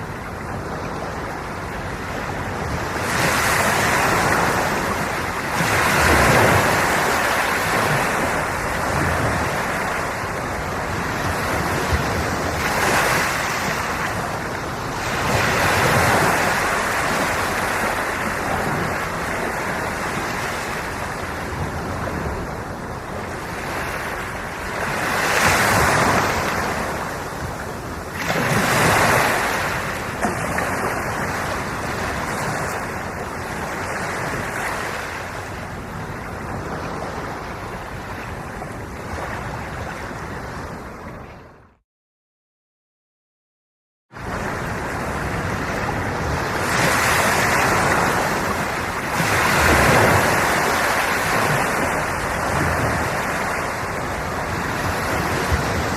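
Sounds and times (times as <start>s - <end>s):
sea waves washing on shore: 0.0s - 41.6s, 44.2s - 55.9s.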